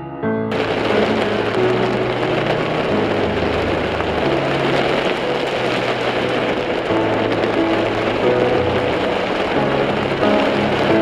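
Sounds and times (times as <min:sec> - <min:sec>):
heavy rain on windshield: 0:00.5 - 0:11.0.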